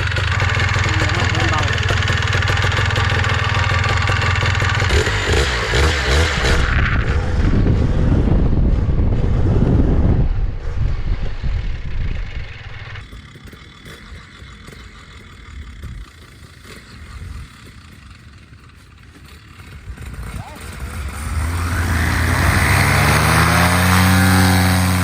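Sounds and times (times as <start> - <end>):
paramotor engine running: 0.0 - 25.0.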